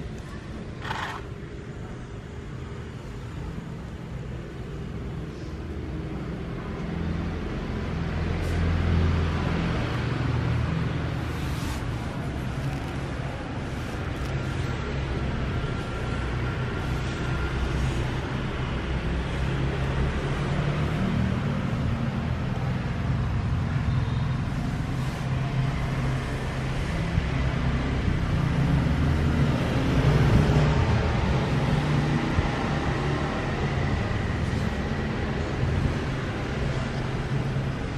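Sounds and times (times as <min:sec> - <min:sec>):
road traffic rumble: 0:00.0 - 0:37.9.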